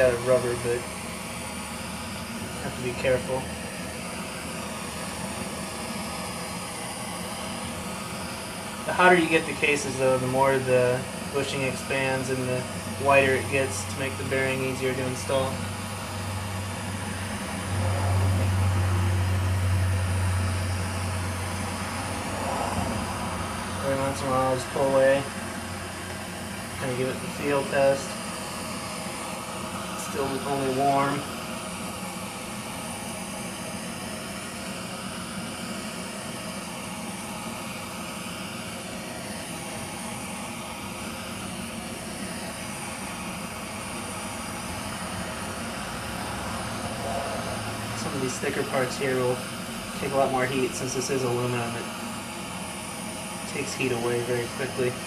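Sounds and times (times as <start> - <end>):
gas torch flame roaring: 0.0 - 55.0.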